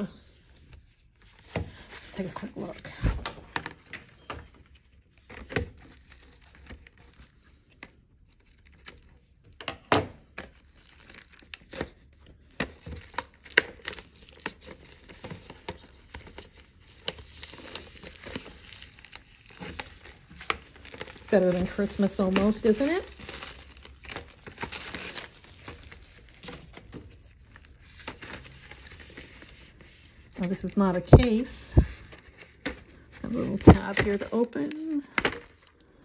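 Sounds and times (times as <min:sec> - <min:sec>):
plastic shrink-wrap crinkling: 0:00.8 - 0:09.6, 0:10.2 - 0:35.9.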